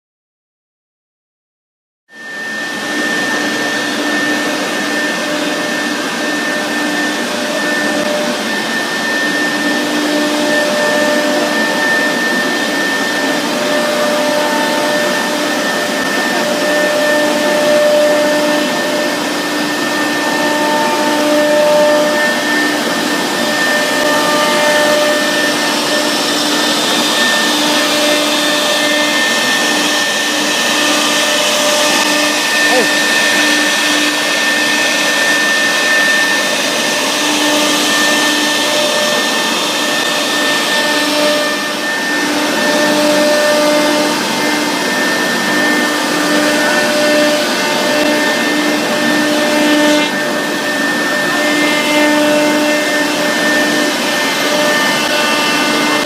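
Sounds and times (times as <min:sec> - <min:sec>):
router spindle whining: 0:02.2 - 0:56.0.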